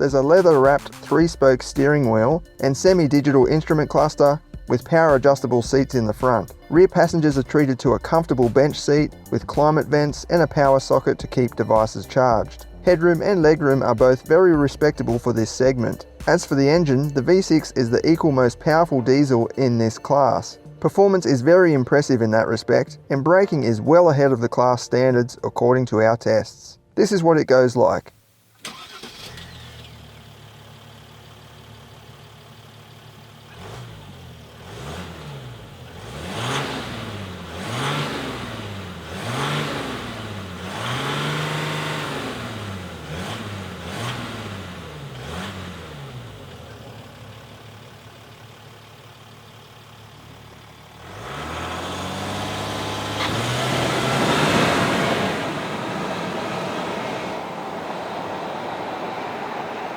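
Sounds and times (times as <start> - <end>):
diesel engine idling and revving: 0.0 - 18.9, 28.7 - 59.9.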